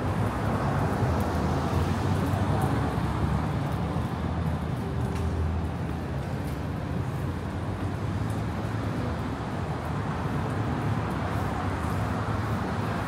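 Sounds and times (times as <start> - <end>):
vehicle engines and tyres rumbling: 0.0 - 13.0.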